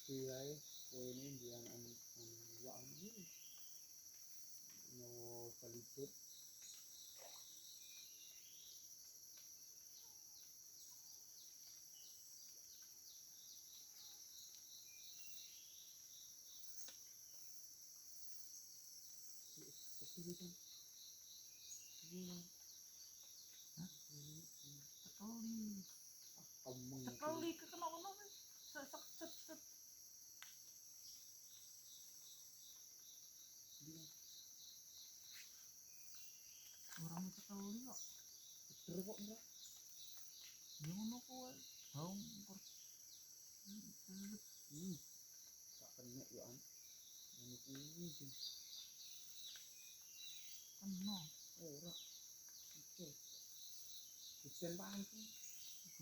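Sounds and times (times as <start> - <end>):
short insect chirps: 0.0 - 56.0.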